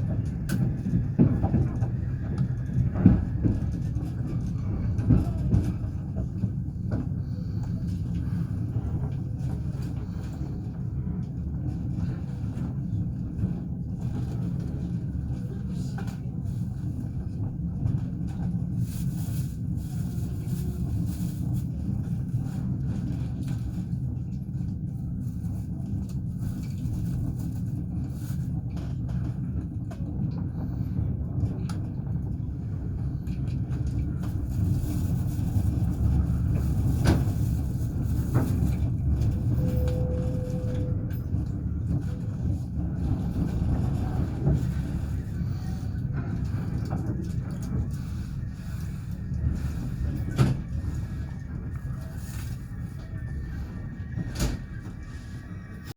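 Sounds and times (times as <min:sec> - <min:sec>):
train rumbling along rails: 0:00.0 - 0:55.9.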